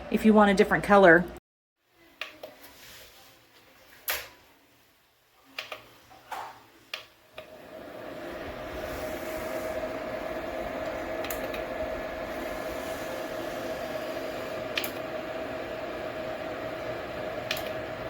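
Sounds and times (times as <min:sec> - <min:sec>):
space heater fan whirring: 0:01.9 - 0:18.0.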